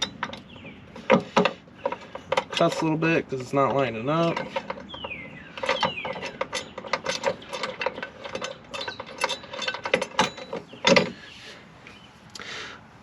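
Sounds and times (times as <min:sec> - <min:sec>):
metallic clicking of bolt and washer: 0:00.0 - 0:11.1
heavy metal clunk: 0:00.0 - 0:11.2.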